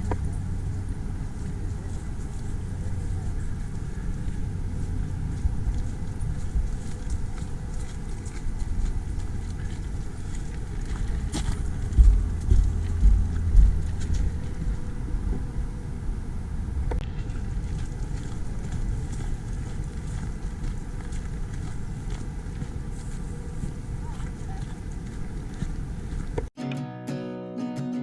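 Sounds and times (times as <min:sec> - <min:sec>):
wind buffeting microphone: 0:00.0 - 0:26.5.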